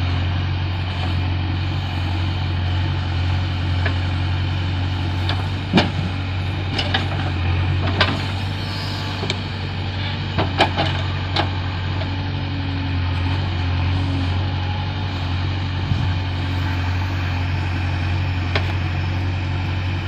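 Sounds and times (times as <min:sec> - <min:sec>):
heavy diesel engine idling: 0:00.0 - 0:20.0.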